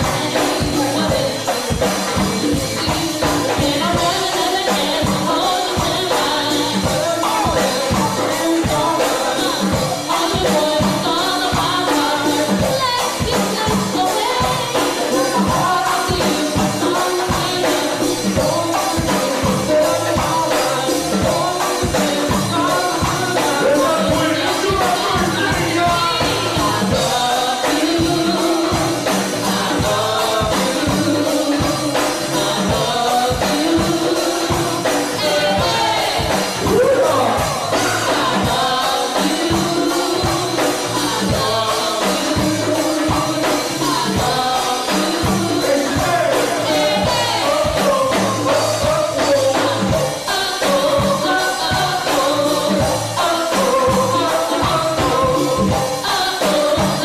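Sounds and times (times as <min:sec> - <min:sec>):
lead vocal singing: 0:00.0 - 0:57.0
live band playing: 0:00.0 - 0:57.0
steady drum beat: 0:00.0 - 0:57.0.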